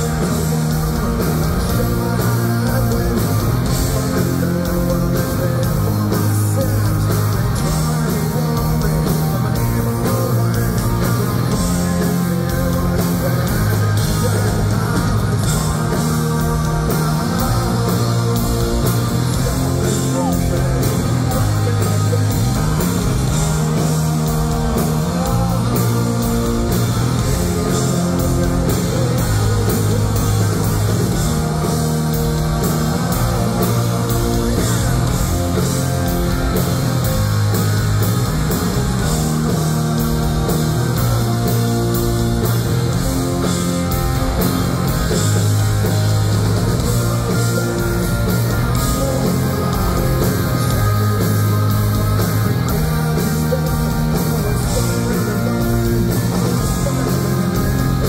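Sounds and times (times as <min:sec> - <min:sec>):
person singing lead vocal: 0:00.0 - 0:58.0
punk rock band playing live: 0:00.0 - 0:58.0.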